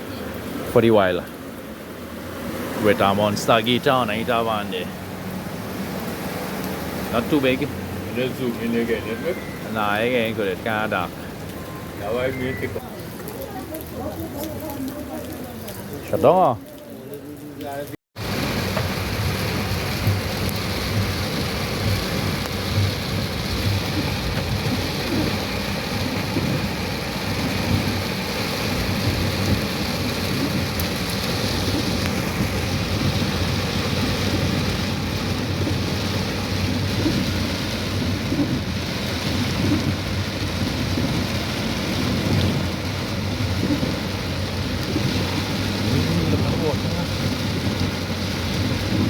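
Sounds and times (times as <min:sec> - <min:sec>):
water rushing: 0:00.0 - 0:49.0.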